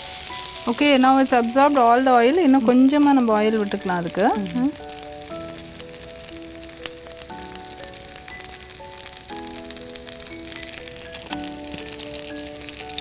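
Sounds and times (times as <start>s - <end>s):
background music of held notes: 0.0s - 13.0s
food sizzling in oil: 0.0s - 13.0s.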